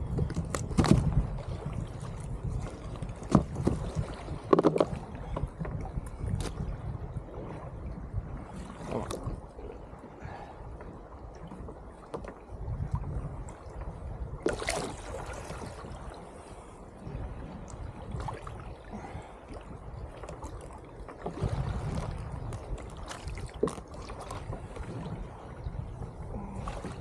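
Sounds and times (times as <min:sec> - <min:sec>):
water sloshing against plastic hull: 0:00.0 - 0:06.8, 0:07.4 - 0:27.0
knocks and handling on boat: 0:00.0 - 0:27.0.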